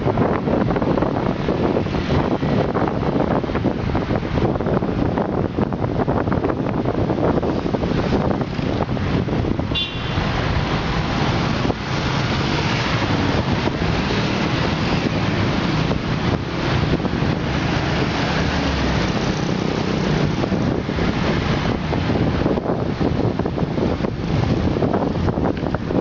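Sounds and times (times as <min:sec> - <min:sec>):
vehicles passing: 0:00.0 - 0:26.0
wind buffeting microphone: 0:00.0 - 0:26.0.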